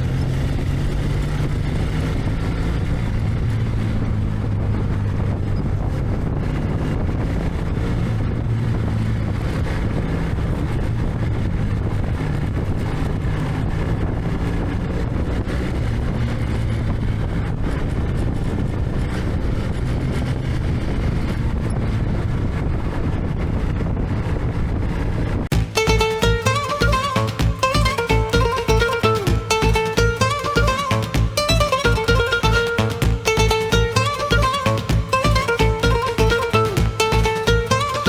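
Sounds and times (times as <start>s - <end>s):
motorcycle engine running: 0.0s - 38.0s
wind noise on microphone: 0.0s - 38.0s.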